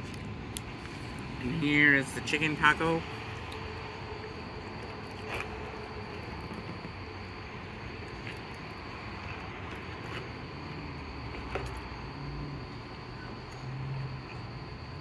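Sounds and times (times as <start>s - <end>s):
high-pitched hum: 0.0s - 15.0s.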